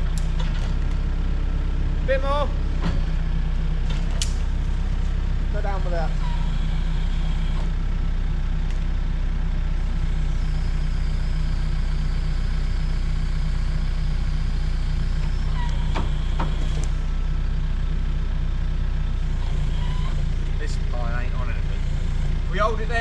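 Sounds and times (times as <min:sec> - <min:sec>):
forklift engine droning: 0:00.0 - 0:23.0.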